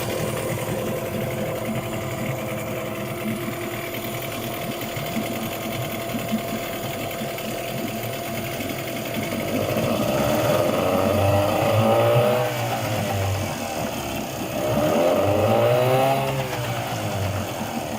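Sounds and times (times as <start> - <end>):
outboard motor running: 0.0 - 17.9.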